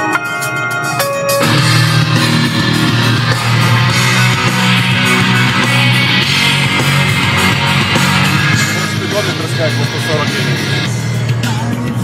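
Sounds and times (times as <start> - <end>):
rock music from car stereo: 0.0 - 12.0.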